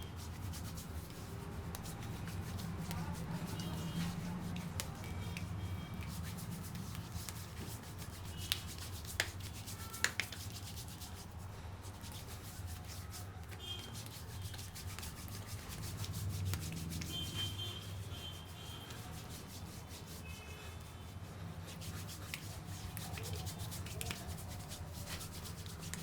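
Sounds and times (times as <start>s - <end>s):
rubbing against a surface: 0.0s - 26.0s.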